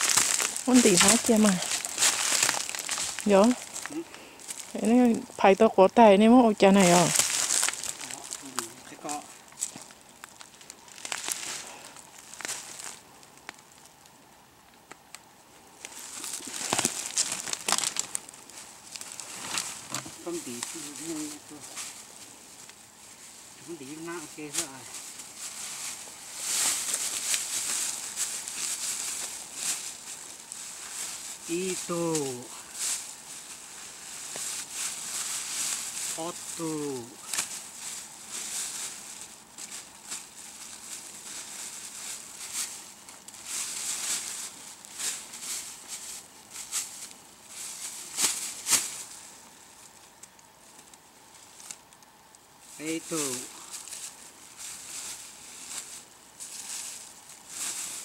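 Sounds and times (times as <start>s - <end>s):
crinkling and rustling: 0.0s - 5.5s, 6.7s - 58.0s.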